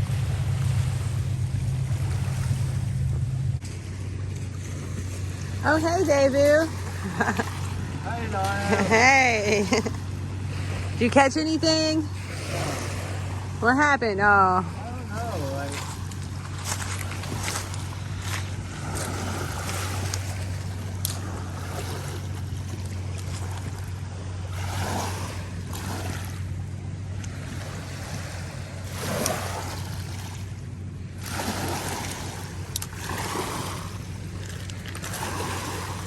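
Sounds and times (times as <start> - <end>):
steady low hum: 0.0 - 36.0
water lapping: 0.0 - 36.0
wind: 0.0 - 36.0.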